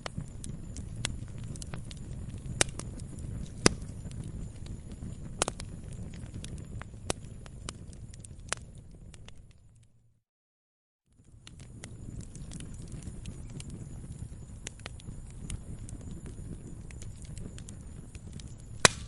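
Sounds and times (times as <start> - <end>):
fire flames rumbling: 0.0 - 10.0, 11.1 - 19.0
fire crackles and pops: 0.0 - 10.1, 11.1 - 19.0.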